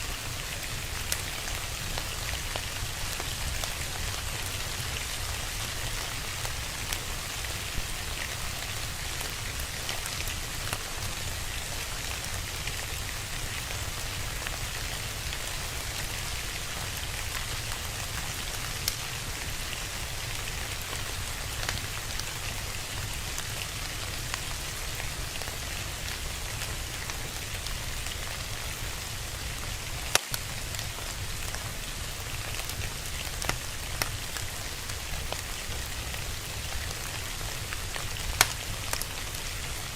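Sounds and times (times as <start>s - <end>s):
crackling fire pops: 0.0s - 39.9s
steady rain: 0.0s - 39.9s.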